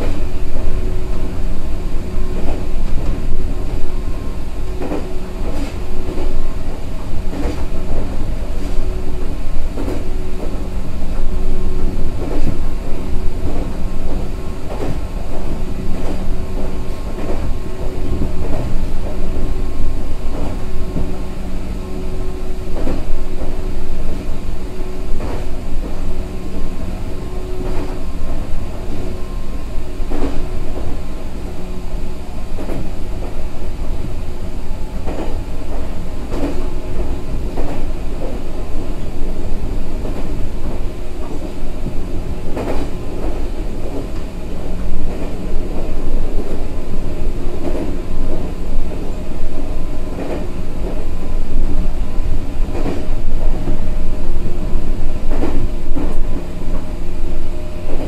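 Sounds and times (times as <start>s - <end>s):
train hum: 0.0s - 58.0s
train wheels rumbling on rails: 0.0s - 58.0s
wheels clacking over rail joints: 0.0s - 58.0s.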